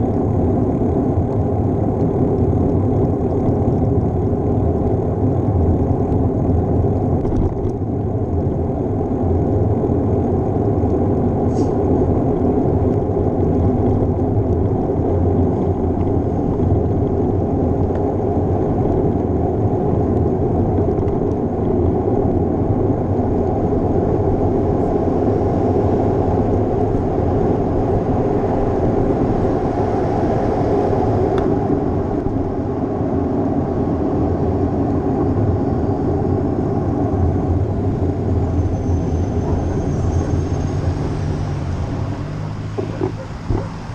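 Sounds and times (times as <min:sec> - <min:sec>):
road noise: 0:00.0 - 0:43.9
wind rumble: 0:00.0 - 0:43.9.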